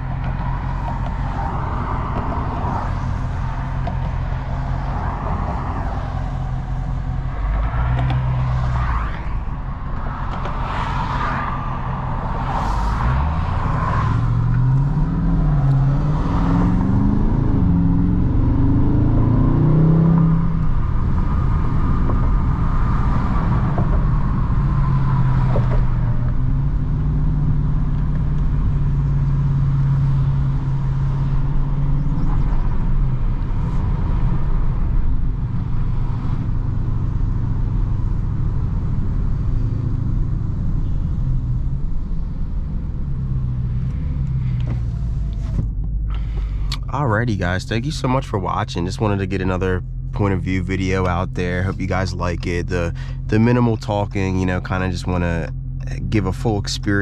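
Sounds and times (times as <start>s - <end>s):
car engine heard from cabin: 0.0s - 57.0s.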